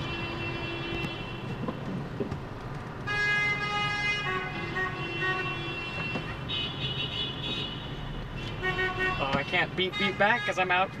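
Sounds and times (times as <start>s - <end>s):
car horns honking: 0.0s - 1.8s, 3.0s - 11.0s
freeway traffic noise: 0.0s - 11.0s.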